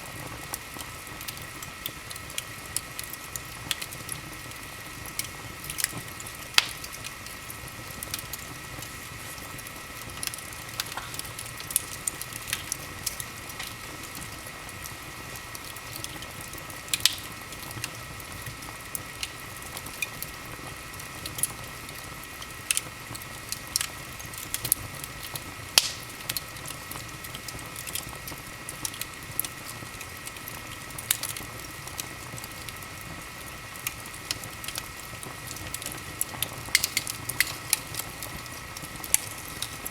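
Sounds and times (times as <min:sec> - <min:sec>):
soft fire hiss: 0:00.0 - 0:39.9
wood fire popping and snapping: 0:00.0 - 0:39.9.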